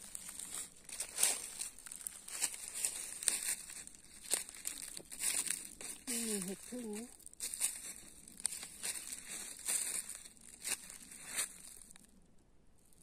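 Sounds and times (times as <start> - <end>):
footsteps crunching dry leaves: 0.0 - 12.0.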